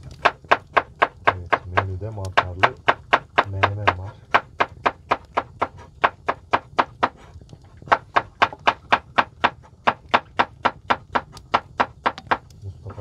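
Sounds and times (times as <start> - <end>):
knife chopping on cutting board: 0.2 - 7.2, 7.9 - 12.5.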